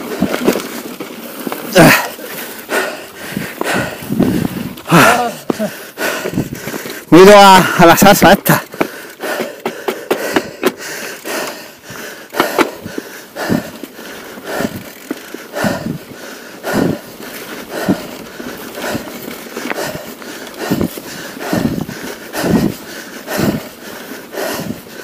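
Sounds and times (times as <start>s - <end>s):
tyres hissing on dirt trail: 0.0s - 25.0s
person breathing hard: 1.4s - 25.0s.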